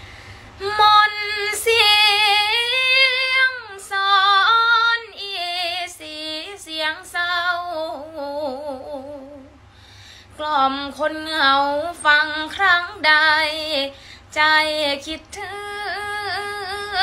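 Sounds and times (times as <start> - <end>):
woman singing unaccompanied: 0.6 - 9.6, 10.4 - 17.0.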